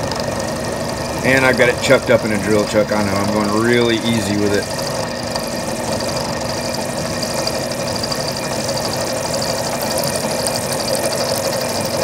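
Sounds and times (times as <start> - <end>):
fast fine rattle: 0.0 - 12.0
milling machine humming: 0.0 - 12.0.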